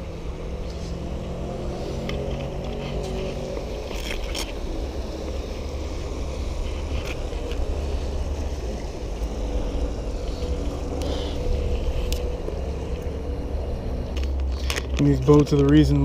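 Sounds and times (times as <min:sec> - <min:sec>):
boat motor rumbling: 0:00.0 - 0:16.0.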